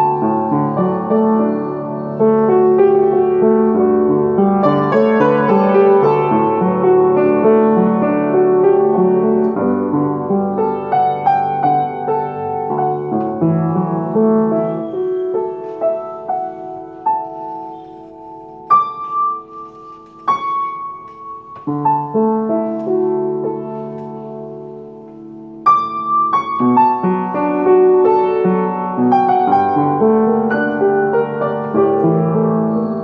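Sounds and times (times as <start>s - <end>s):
slow solo piano: 0.0s - 33.0s.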